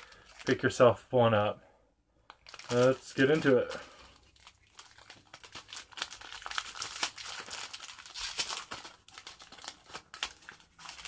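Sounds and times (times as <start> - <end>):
wrapper crinkling and tearing: 0.0 - 0.8, 2.2 - 11.0.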